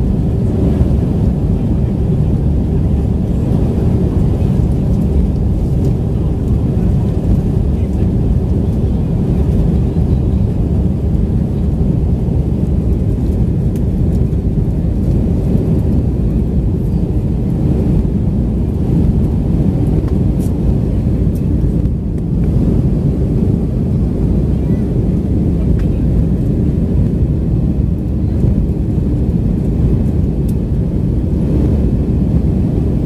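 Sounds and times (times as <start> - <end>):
jet engines rumbling in cabin: 0.0 - 33.0.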